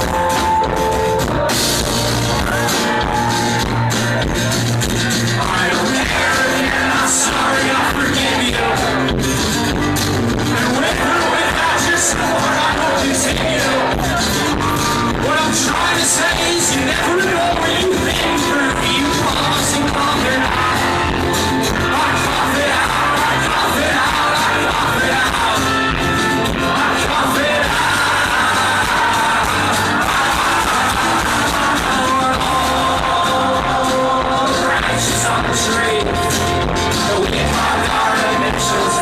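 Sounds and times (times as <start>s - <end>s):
drums: 0.0s - 39.0s
guitars: 0.0s - 39.0s
person singing: 2.4s - 9.3s, 10.5s - 39.0s.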